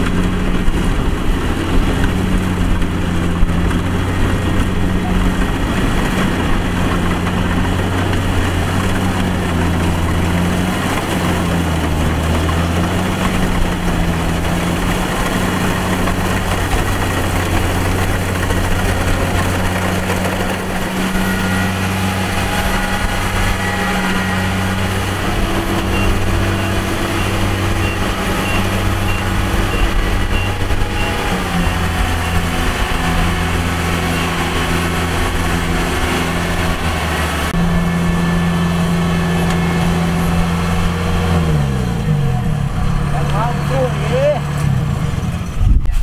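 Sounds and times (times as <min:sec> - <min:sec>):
combine harvester engine running: 0:00.0 - 0:46.0.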